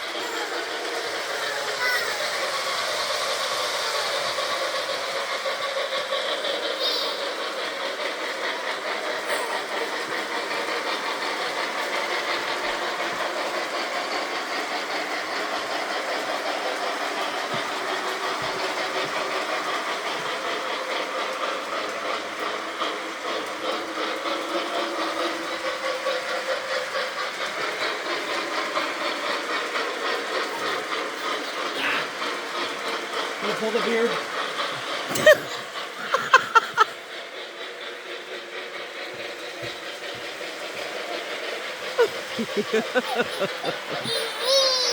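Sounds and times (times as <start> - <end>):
model train running on track: 0.0 - 44.9.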